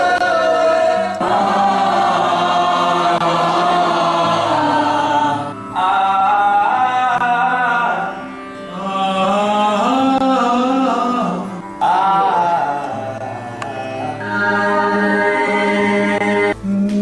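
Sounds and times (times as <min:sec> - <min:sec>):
steady drone: 0:00.0 - 0:17.0
voices singing chant-like notes: 0:00.0 - 0:17.0.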